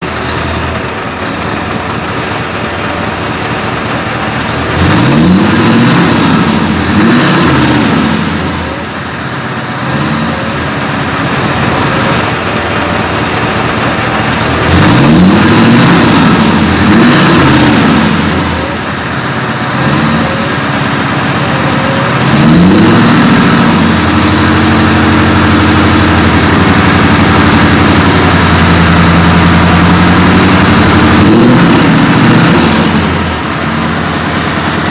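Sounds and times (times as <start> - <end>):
diesel truck engine revving: 0.0 - 34.9.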